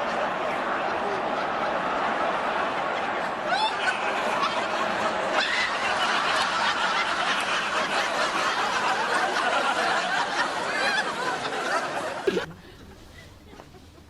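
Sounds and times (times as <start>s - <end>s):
people laughing: 0.0s - 14.0s.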